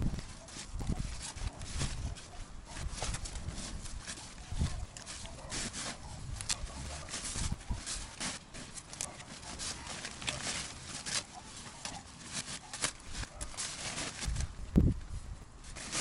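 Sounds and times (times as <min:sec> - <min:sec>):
leaves rustling and crackling: 0:00.0 - 0:16.0.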